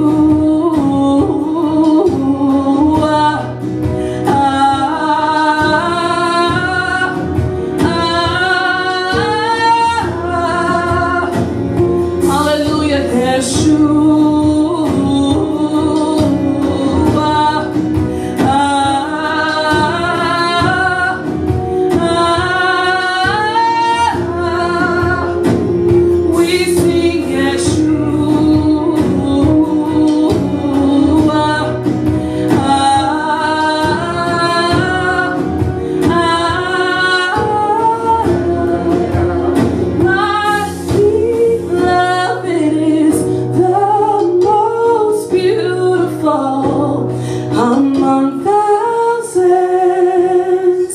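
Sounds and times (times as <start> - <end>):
sustained instrumental backing: 0.0 - 50.9
woman singing gospel song: 0.0 - 50.9.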